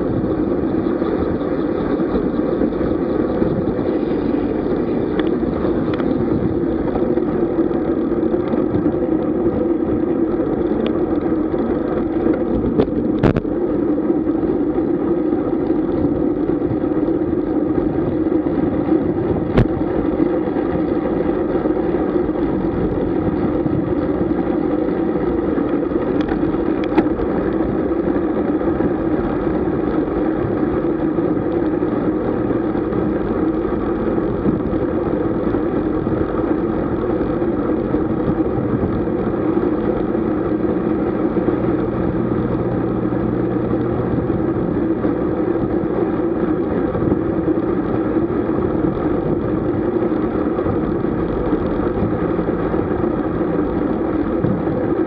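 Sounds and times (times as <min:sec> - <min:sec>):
bike tyre noise: 0:00.0 - 0:55.0.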